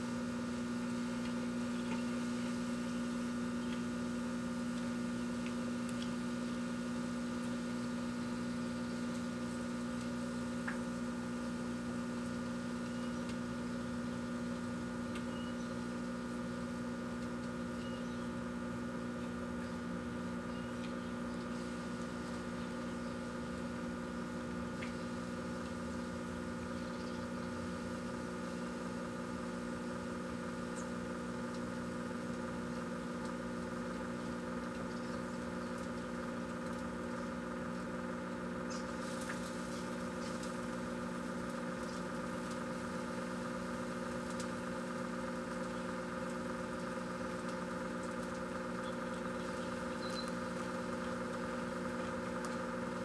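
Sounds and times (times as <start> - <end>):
microwave oven humming: 0.0 - 53.0.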